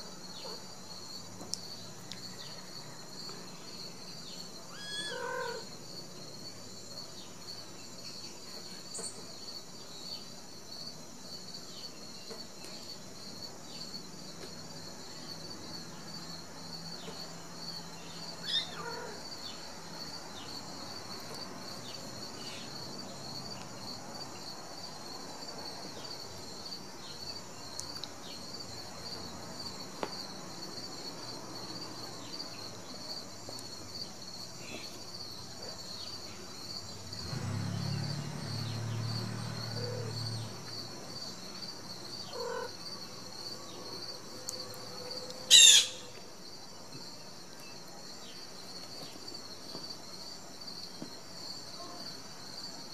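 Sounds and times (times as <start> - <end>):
crickets chirping: 0.0 - 52.9.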